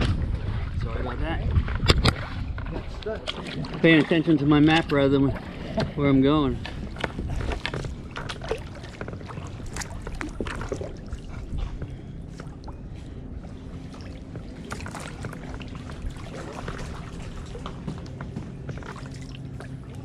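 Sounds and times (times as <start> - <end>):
kayak paddle strokes in water: 1.6 - 20.0.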